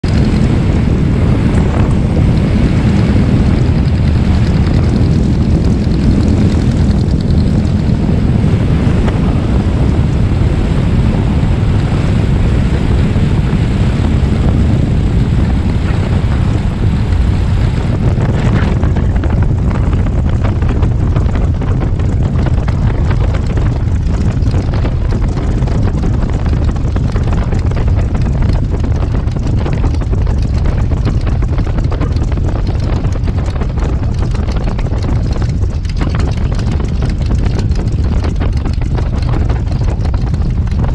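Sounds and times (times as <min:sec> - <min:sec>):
heavy wind rush: 0:00.0 - 0:40.9
light plane engine and propeller: 0:00.0 - 0:40.9.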